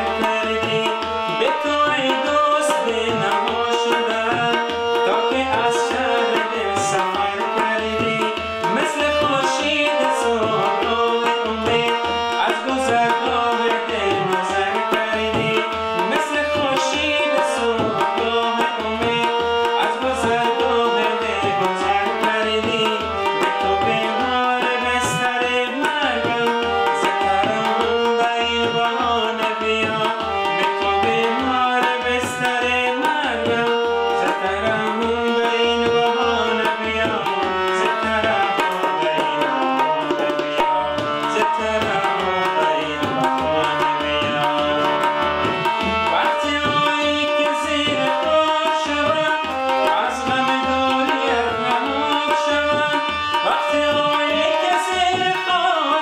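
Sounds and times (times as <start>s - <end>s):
harmonium melody: 0.0s - 56.0s
man singing: 0.0s - 56.0s
tabla drumming: 0.0s - 56.0s.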